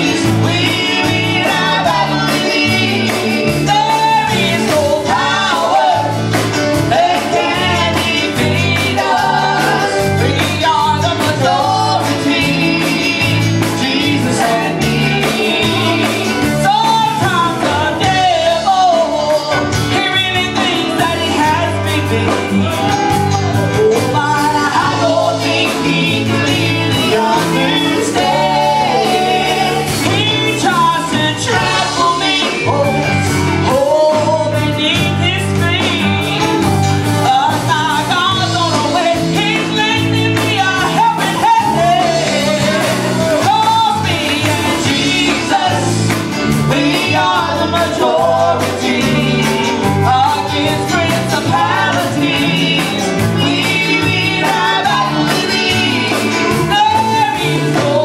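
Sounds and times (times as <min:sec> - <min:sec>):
instrumental band backing: 0:00.0 - 0:58.0
woman singing gospel song: 0:00.0 - 0:58.0.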